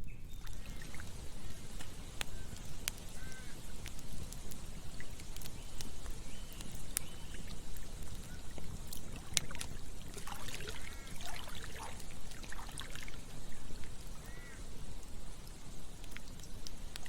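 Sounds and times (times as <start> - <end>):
campfire crackling and popping: 0.0 - 17.0
stream trickling and gurgling: 0.2 - 17.0.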